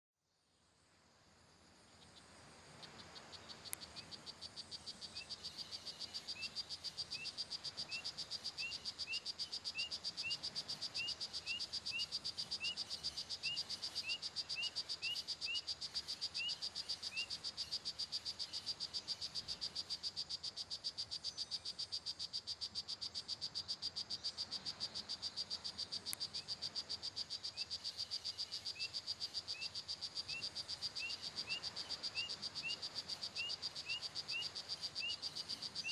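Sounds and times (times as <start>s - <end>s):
high-pitched insect trill: 1.9s - 35.9s
frog chirps: 2.8s - 35.9s.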